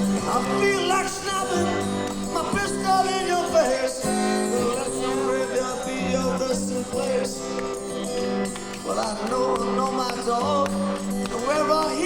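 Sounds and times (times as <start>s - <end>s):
acoustic blues instrumental: 0.0s - 12.0s.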